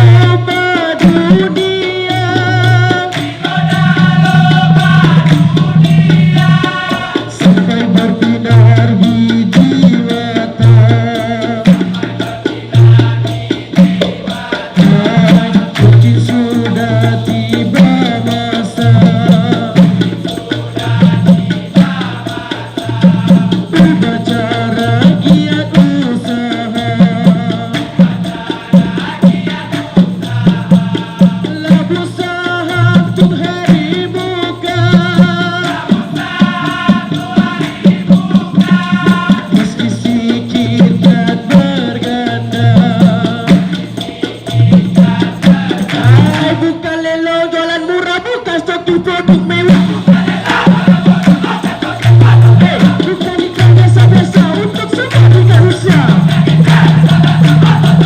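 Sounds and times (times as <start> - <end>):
frame drums beating: 0.0 - 46.8, 49.0 - 58.0
maracas shaking: 0.0 - 58.0.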